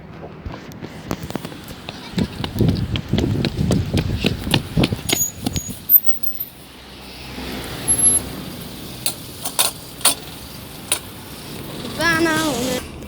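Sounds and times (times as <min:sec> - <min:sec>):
car passing: 0:00.8 - 0:13.0.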